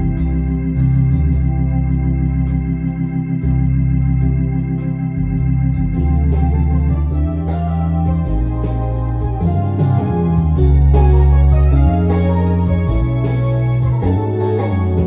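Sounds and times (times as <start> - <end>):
organ playing slow ballad: 0.0 - 15.0.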